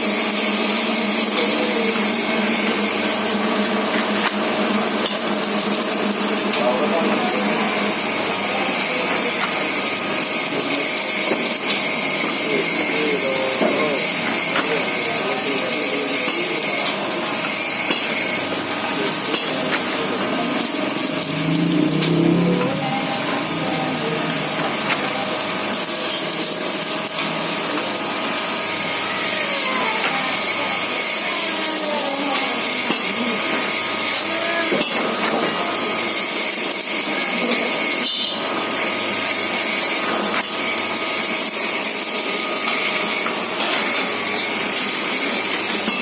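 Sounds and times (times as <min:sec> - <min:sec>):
packing machine running: 0:00.0 - 0:46.0.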